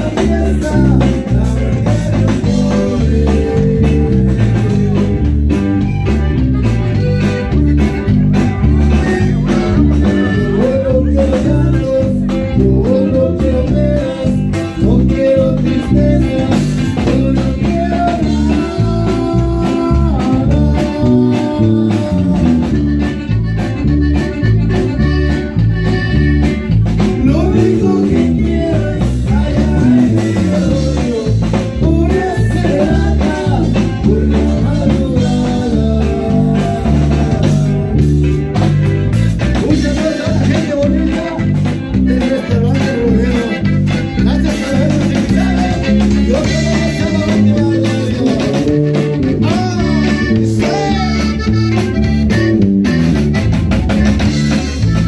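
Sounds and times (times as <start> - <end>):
person singing: 0.0 - 5.6, 8.0 - 23.4, 27.1 - 38.5, 39.4 - 52.4
bass: 0.0 - 55.0
drums: 0.0 - 55.0
plucked guitar: 0.0 - 55.0.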